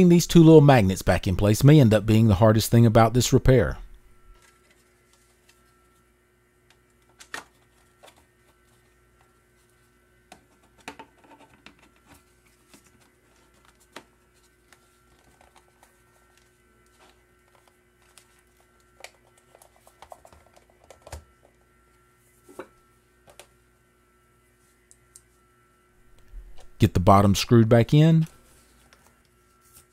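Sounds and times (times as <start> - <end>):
faint steady hum: 0.0 - 29.9.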